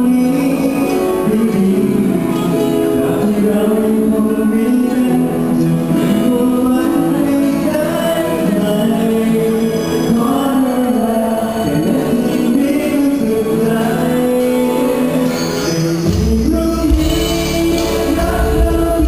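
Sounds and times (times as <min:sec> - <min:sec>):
acoustic guitar: 0:00.0 - 0:19.0
person singing long notes: 0:00.0 - 0:19.0.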